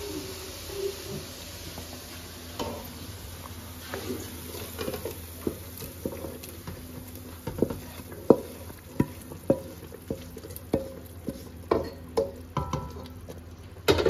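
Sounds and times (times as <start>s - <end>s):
low frying sizzle: 0.0s - 14.0s.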